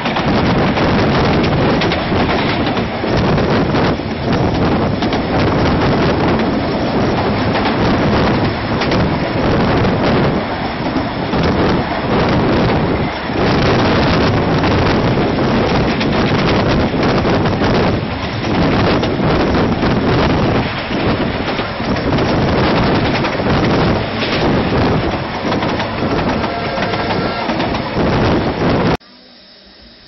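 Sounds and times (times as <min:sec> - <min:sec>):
wind buffeting microphone: 0:00.0 - 0:29.0
moving steam train: 0:00.0 - 0:30.0.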